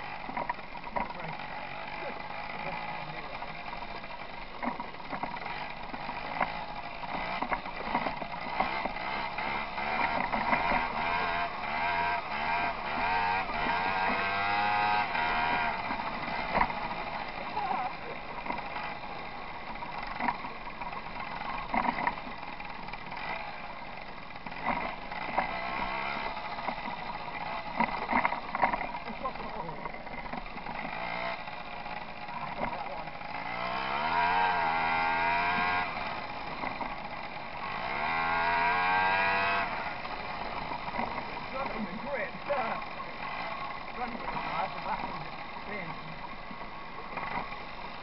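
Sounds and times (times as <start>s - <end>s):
bike rattling over stones: 0.0s - 48.0s
moped engine running: 0.0s - 48.0s.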